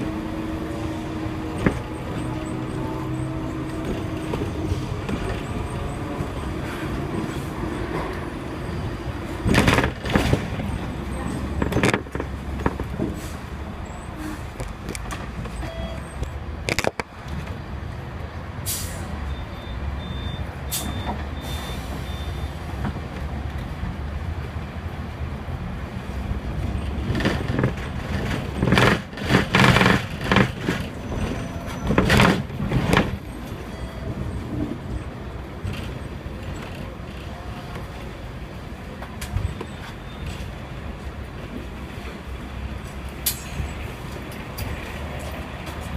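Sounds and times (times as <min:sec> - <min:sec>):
electric tram rumbling: 0:00.0 - 0:45.9.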